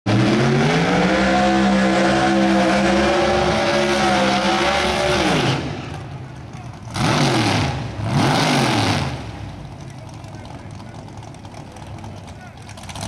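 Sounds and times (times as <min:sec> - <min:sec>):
car engine at high revs: 0:00.1 - 0:13.0.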